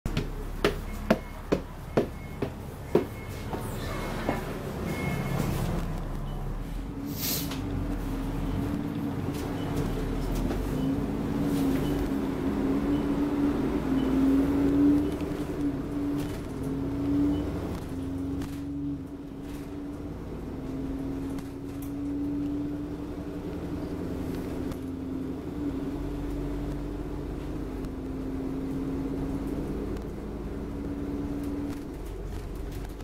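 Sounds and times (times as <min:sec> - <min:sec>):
road and engine rumble: 0:00.0 - 0:33.0
bus drivetrain hum: 0:00.1 - 0:33.0.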